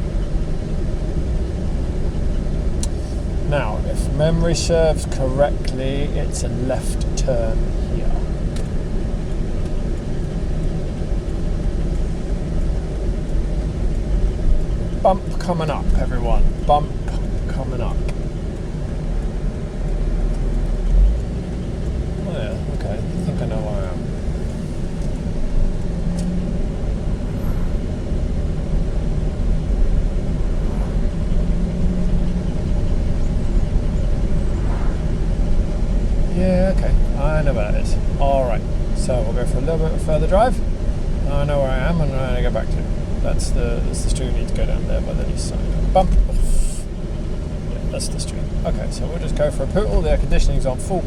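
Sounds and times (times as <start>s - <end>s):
road and engine noise in car cabin: 0.0s - 51.0s.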